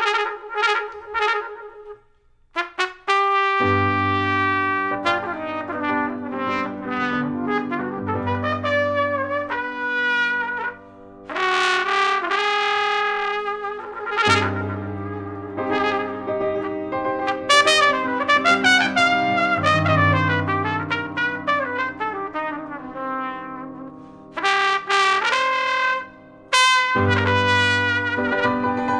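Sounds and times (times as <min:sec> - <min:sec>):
jazz trumpet melody: 0:00.0 - 0:28.9.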